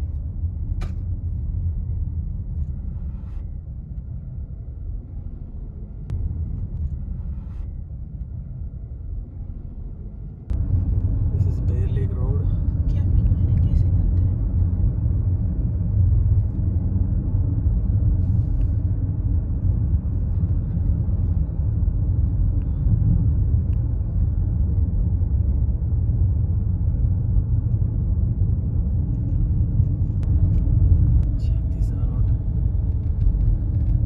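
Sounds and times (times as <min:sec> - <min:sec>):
car driving on road: 0:00.0 - 0:34.0.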